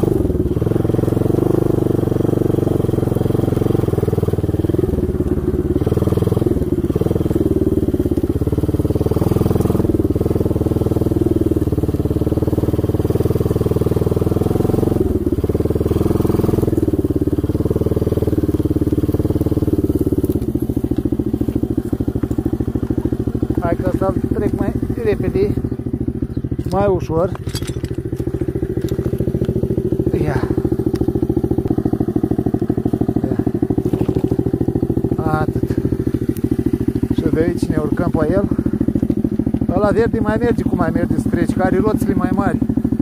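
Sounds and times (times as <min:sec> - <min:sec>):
atv engine running: 0:00.0 - 0:43.0.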